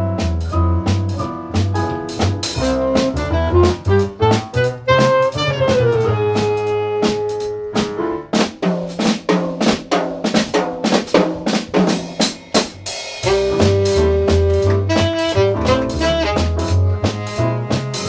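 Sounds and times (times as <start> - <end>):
jazz combo playing: 0.0 - 18.0
rapid snare and cymbal strokes: 0.1 - 18.0.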